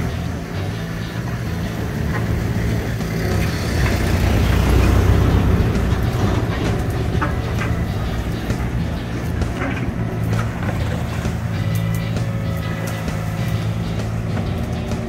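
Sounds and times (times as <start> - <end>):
diesel excavator engine under load: 0.0 - 15.0.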